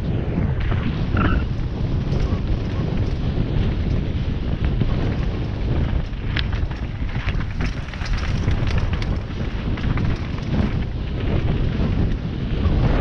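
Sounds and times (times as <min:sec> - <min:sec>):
wind buffeting microphone: 0:00.0 - 0:13.0
bike clicks and rattles: 0:00.6 - 0:13.0
tyres rumbling on dirt: 0:00.6 - 0:13.0.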